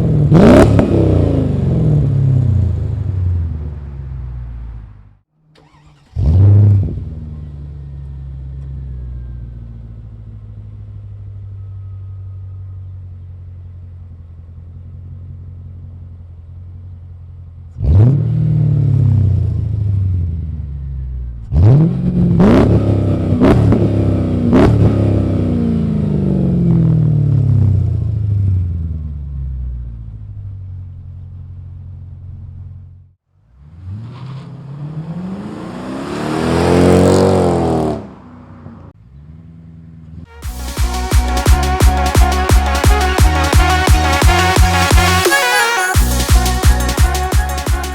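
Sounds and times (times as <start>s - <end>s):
car engine idling and revving: 0.0s - 45.3s, 46.0s - 47.9s.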